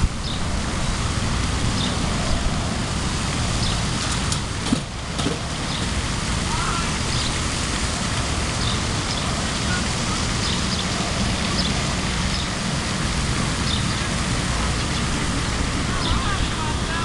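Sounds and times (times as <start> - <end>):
outdoor rushing noise: 0.0 - 17.0.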